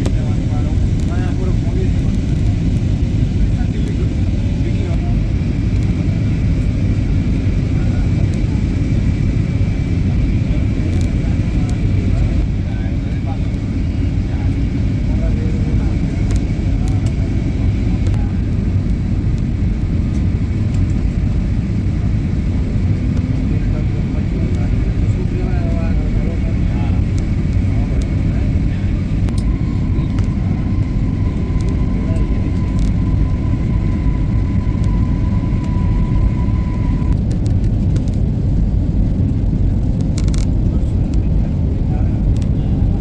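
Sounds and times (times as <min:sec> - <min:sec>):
airplane rumble: 0:00.0 - 0:43.0.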